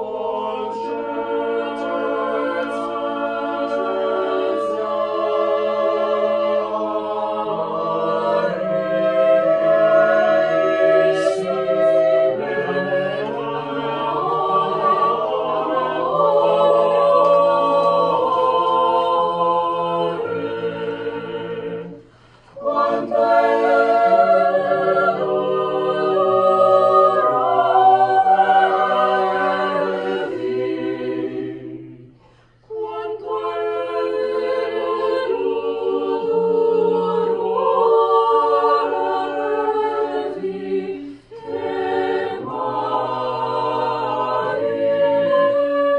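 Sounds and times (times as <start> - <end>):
choir singing a cappella: 0.0 - 45.9.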